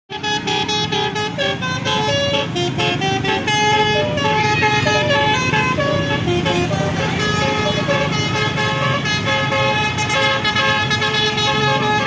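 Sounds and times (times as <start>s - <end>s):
musical air horn melody: 0.1s - 12.0s.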